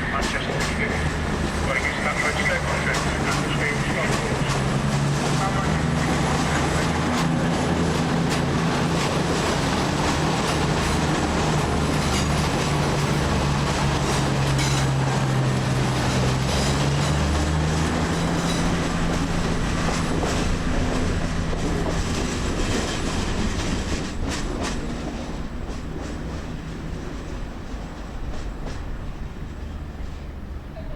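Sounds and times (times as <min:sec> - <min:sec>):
train rolling noise: 0:00.0 - 0:30.9
wheels clicking over rail joints: 0:00.1 - 0:30.3.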